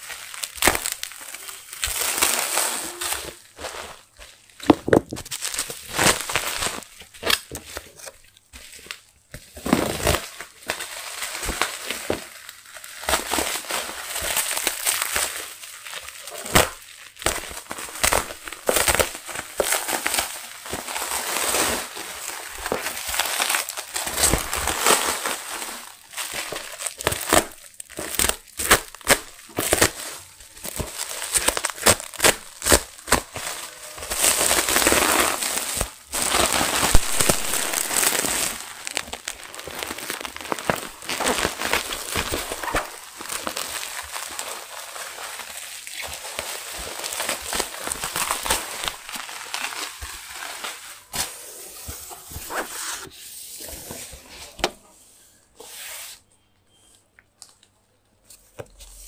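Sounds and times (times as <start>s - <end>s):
bubble wrap crinkling and cracking: 0.0s - 54.9s.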